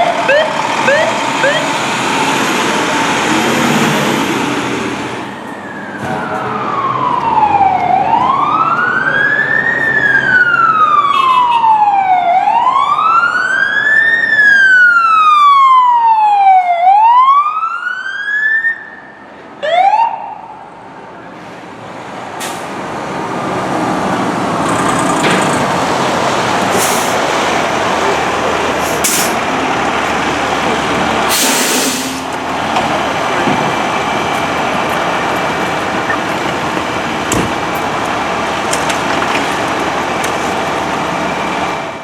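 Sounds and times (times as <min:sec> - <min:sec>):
fire engine siren wailing: 0:00.0 - 0:21.3, 0:25.6 - 0:42.0
truck engine and road noise: 0:00.0 - 0:42.0.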